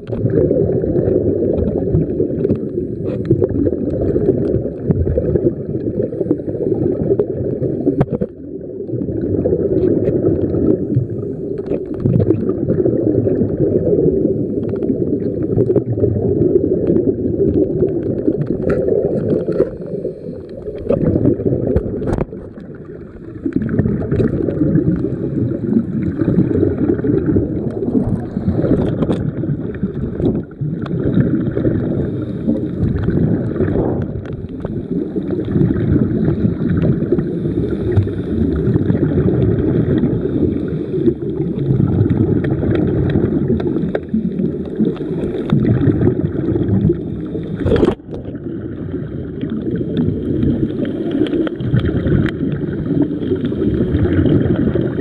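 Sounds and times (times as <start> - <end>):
underwater rumble of moving water: 0.0 - 55.0.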